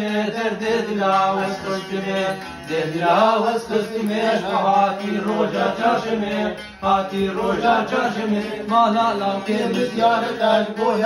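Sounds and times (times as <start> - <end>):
acoustic guitar: 0.0 - 11.0
man singing folk melody: 0.0 - 11.0.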